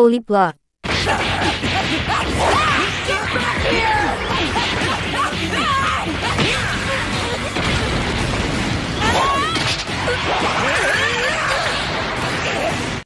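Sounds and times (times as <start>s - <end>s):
shouted fighting grunts and cries: 0.8s - 8.0s, 9.0s - 13.0s
background music: 0.8s - 13.0s
punches and impacts: 0.8s - 13.0s.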